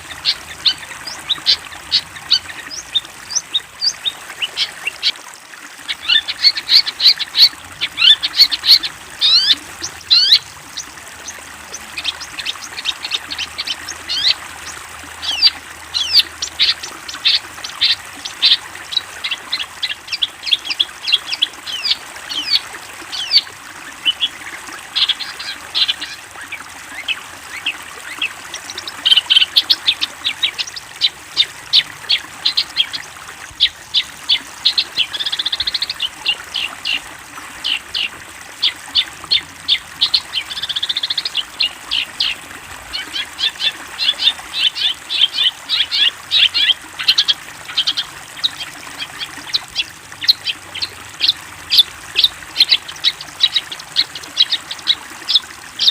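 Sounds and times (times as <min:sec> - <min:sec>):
bird chattering song: 0:00.0 - 0:05.2, 0:05.9 - 0:55.9
bird buzzy trills: 0:00.0 - 0:55.9.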